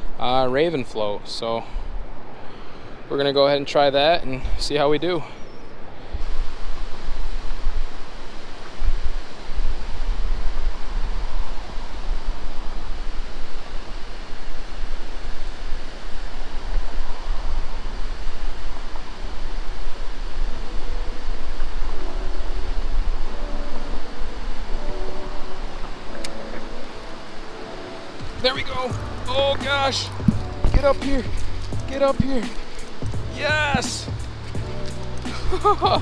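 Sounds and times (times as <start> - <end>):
wind buffeting microphone: 5.7 - 36.0
river water pouring over weir: 6.2 - 36.0.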